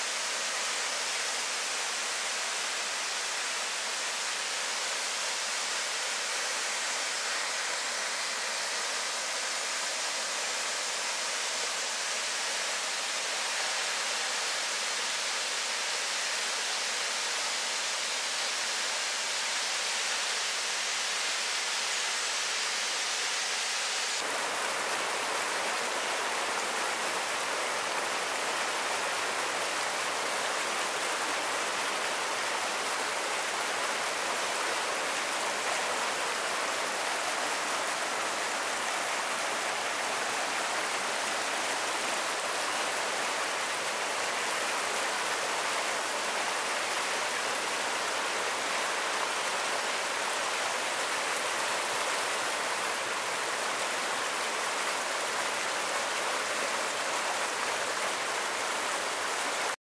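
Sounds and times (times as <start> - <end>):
stream water rushing: 0.0 - 59.8.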